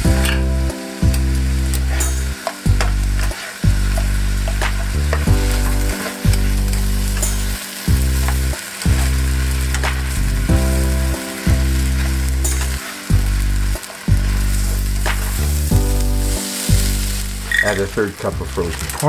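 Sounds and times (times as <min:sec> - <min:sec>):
food sizzling in a frying pan: 0:00.0 - 0:19.0
low music notes: 0:00.0 - 0:19.0.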